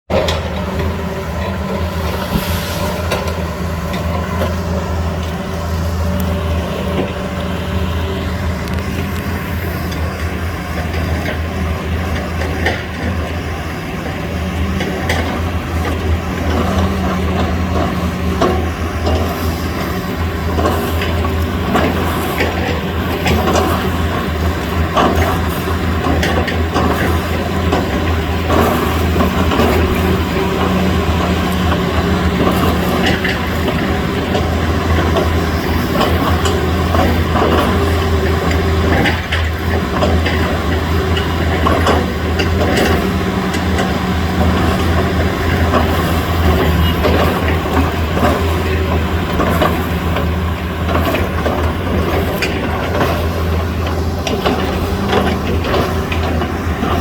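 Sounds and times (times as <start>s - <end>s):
excavator diesel engine running: 0.1s - 57.0s.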